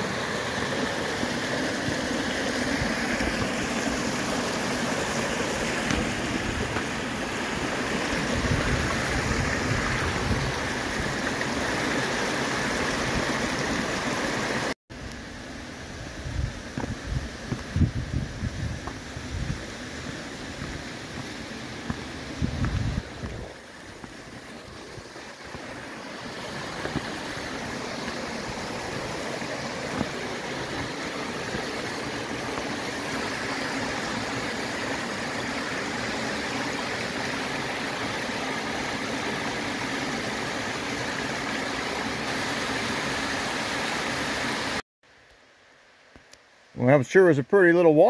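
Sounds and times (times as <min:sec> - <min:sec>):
waterfall rushing: 0:00.0 - 0:14.8, 0:18.9 - 0:44.8.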